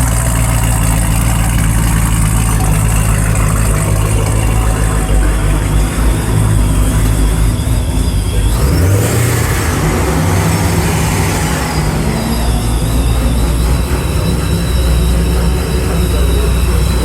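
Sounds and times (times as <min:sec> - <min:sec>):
car engine revving: 0:00.0 - 0:17.0
high whistle: 0:00.0 - 0:17.0.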